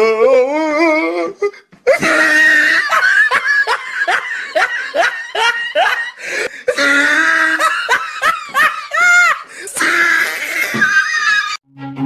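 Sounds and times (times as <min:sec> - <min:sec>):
person laughing: 0:01.5 - 0:11.6.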